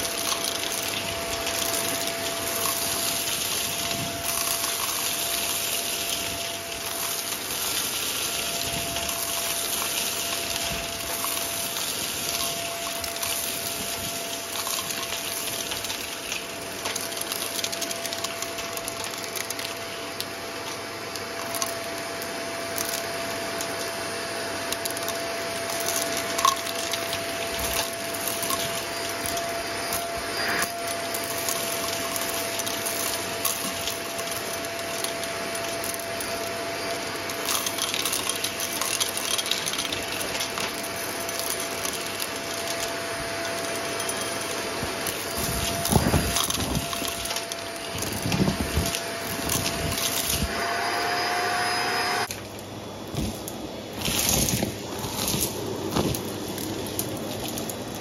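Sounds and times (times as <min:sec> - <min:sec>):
debris rattling up vacuum tube: 0:00.0 - 0:58.0
vacuum cleaner running: 0:00.0 - 0:58.0.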